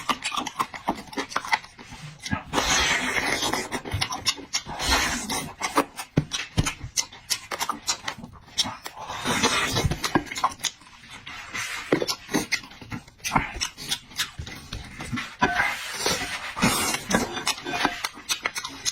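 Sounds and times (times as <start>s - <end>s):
wet chewing and mouth smacking: 0.0s - 18.9s.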